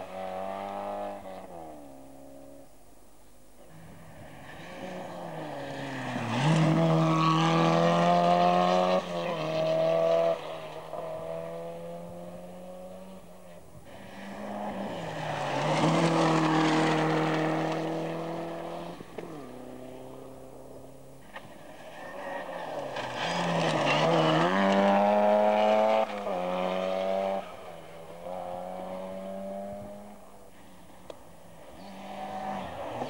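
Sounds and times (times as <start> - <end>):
rally car engine revving: 0.0 - 2.5, 3.8 - 13.3, 13.9 - 30.6, 31.6 - 33.0.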